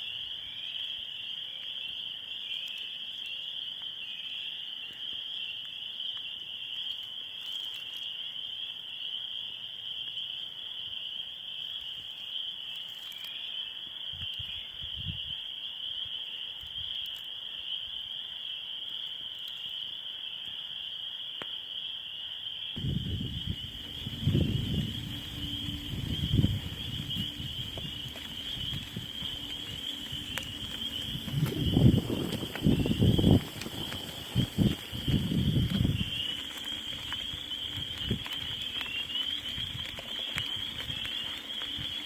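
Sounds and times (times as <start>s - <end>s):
insect chorus: 0.0s - 42.0s.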